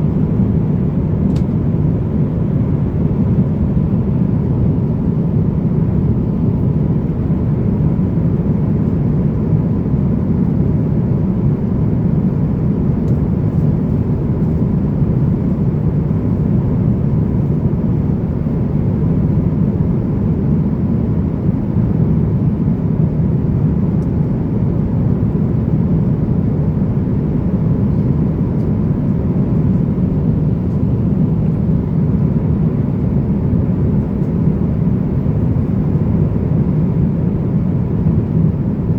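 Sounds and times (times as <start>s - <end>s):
airflow and engine drone: 0.0s - 38.9s.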